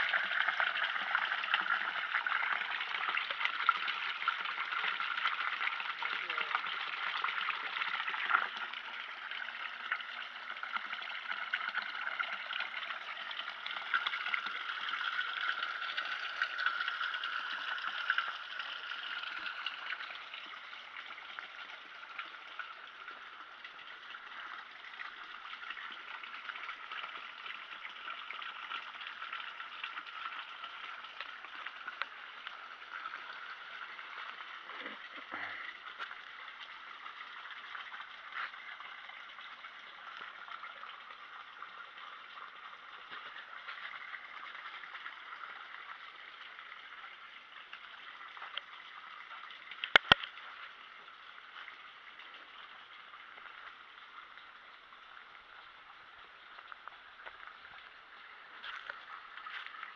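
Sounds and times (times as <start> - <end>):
water running from a spout: 0.0 - 59.9.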